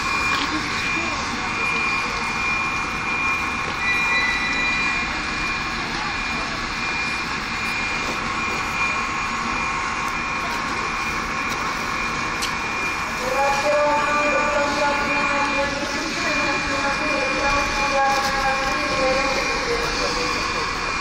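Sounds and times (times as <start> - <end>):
high whine: 0.0 - 21.0
train machinery roaring: 0.0 - 21.0.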